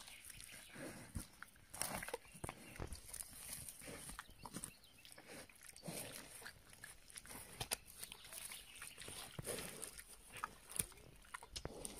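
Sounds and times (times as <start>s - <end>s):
boar chewing and crunching: 0.0s - 11.9s.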